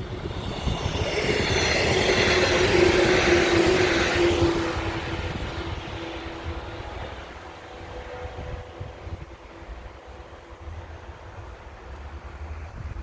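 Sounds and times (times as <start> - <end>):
steady whine: 0.0 - 11.0
electric train passing: 0.0 - 13.0.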